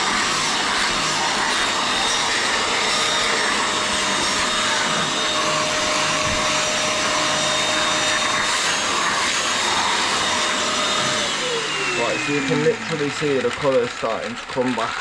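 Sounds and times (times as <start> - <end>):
cleaner motor rush and whine: 0.0 - 15.0.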